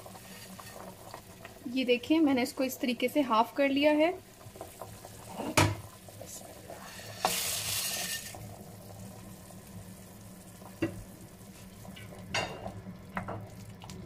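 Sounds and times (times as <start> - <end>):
boiling water hiss: 0.0 - 14.0.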